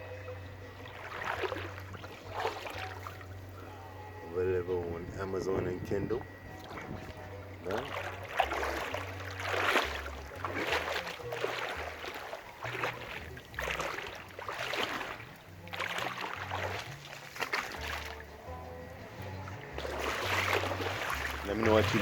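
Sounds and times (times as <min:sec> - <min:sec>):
water washing against boat: 0:00.0 - 0:03.8, 0:04.6 - 0:22.0
background music with bass line: 0:00.0 - 0:22.0.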